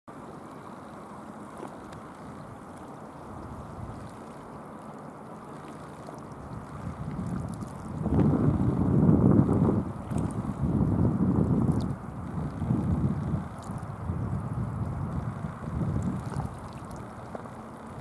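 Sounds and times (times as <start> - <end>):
sea water rushing: 0.1 - 18.0
wind: 0.1 - 18.0.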